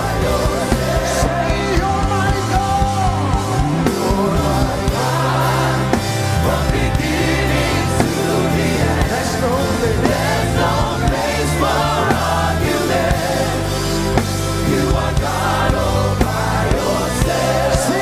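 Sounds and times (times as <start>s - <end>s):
band playing: 0.0s - 18.0s
gospel voices singing: 0.0s - 18.0s.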